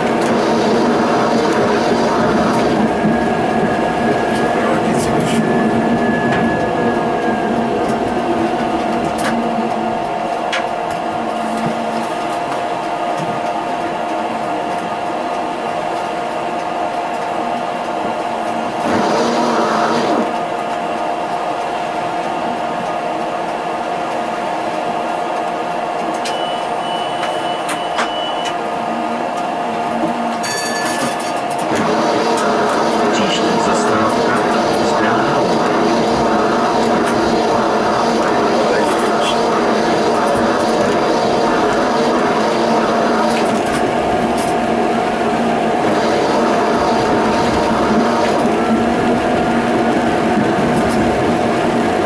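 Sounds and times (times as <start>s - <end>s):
tram motor whine: 0.0s - 52.0s.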